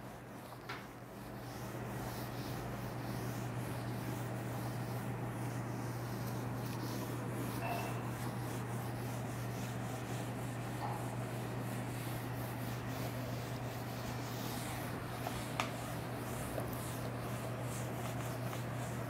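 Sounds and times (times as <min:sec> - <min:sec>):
duster rubbing on whiteboard: 0:00.0 - 0:19.0
steady low hum: 0:00.0 - 0:19.0.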